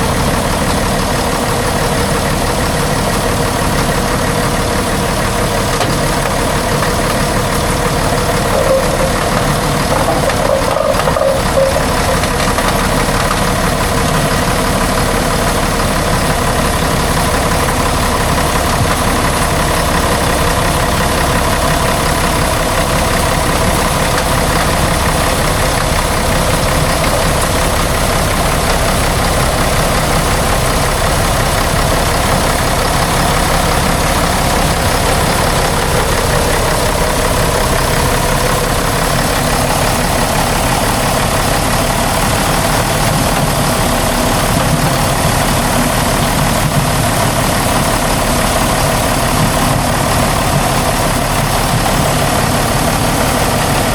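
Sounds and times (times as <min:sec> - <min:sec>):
heavy truck engine running: 0:00.0 - 0:53.9.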